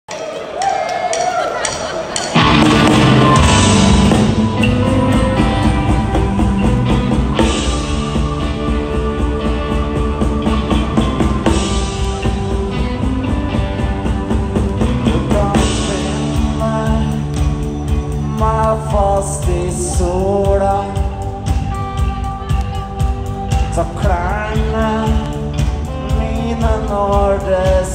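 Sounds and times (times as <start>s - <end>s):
drum kit beat: 1.1s - 27.9s
live rock band playing: 1.4s - 27.9s.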